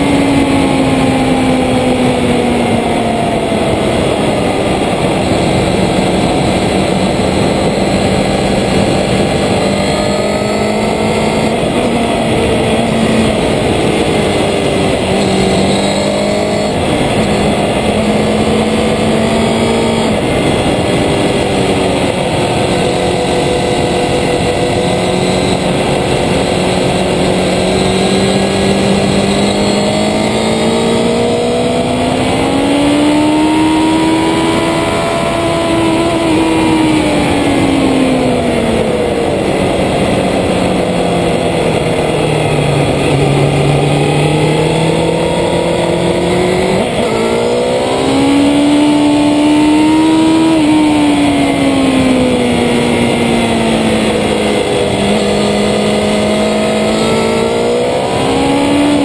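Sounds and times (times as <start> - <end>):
racing motorcycle engine running hard: 0.0 - 59.0
wind noise: 0.0 - 59.0.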